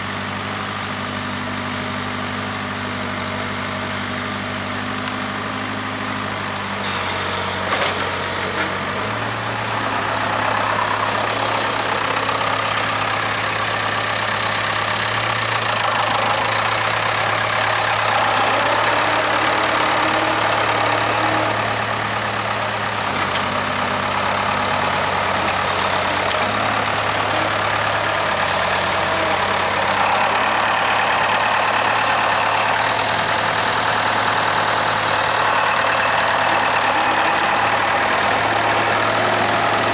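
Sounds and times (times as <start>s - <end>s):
backhoe diesel engine working: 0.0s - 39.9s.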